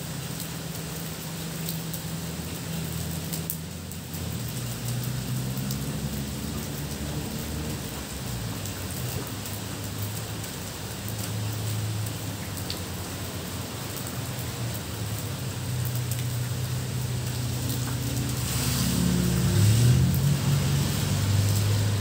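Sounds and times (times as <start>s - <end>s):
rain on foliage and road: 0.0s - 22.0s
vehicle on wet road: 0.0s - 22.0s.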